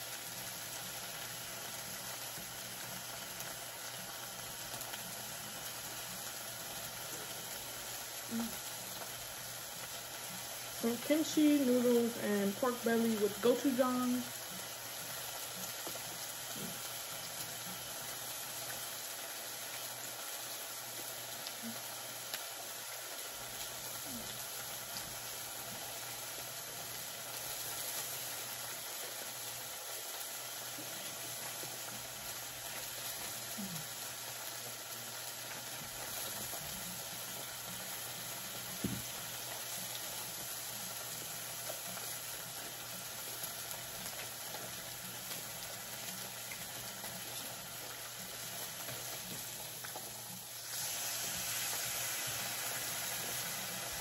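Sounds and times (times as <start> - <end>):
meat and onions sizzling: 0.0 - 54.0.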